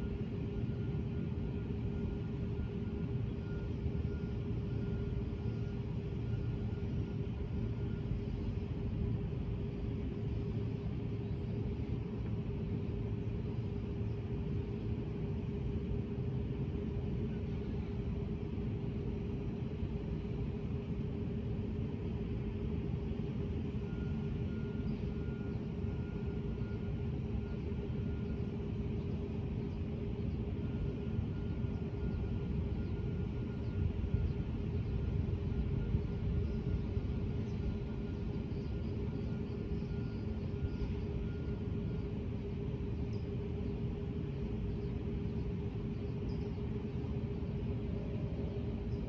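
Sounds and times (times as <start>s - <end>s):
constant hum: 0.0s - 49.0s
steady low rumble: 0.0s - 49.0s.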